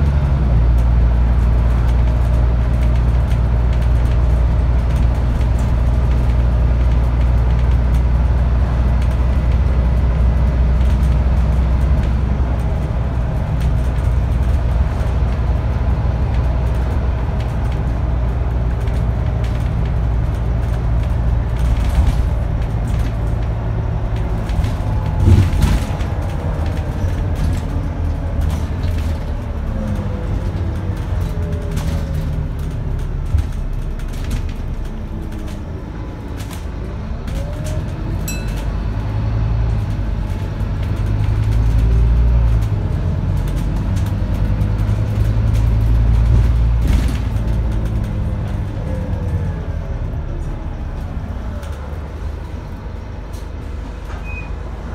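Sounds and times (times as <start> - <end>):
bus engine drone with whine: 0.0 - 54.9
knocks and rattles of bus body: 0.0 - 54.9.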